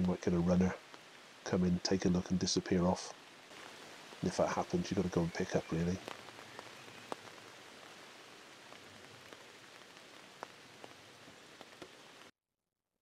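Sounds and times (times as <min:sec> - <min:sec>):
light rain hiss: 0:00.0 - 0:12.3
raindrops ticking: 0:00.0 - 0:12.3.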